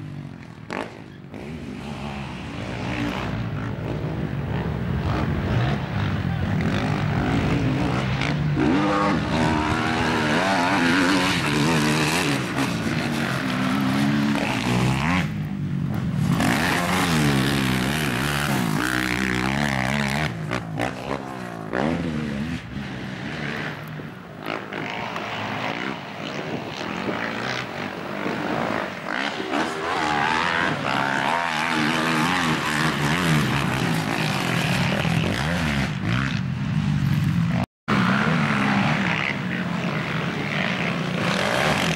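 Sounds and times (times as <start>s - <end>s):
quad bike engines revving: 0.0s - 41.9s.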